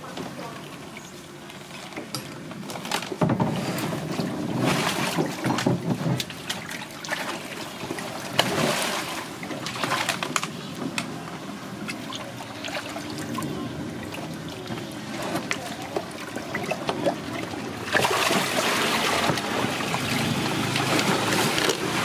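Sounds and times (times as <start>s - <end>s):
water sloshing in tank: 0.0s - 22.0s.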